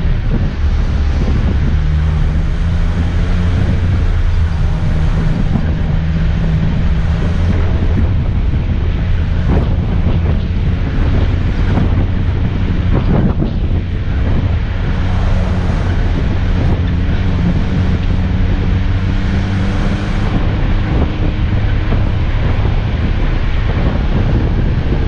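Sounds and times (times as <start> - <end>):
car engine running: 0.0 - 25.0
wind buffeting microphone: 0.0 - 25.0.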